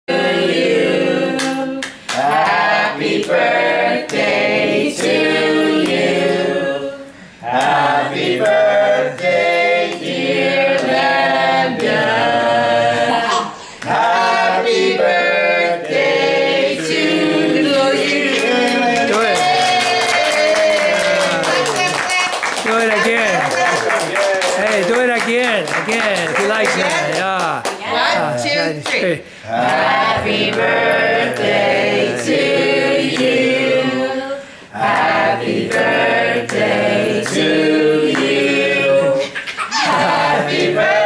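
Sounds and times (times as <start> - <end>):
group singing unaccompanied: 0.0 - 21.8, 29.4 - 41.0.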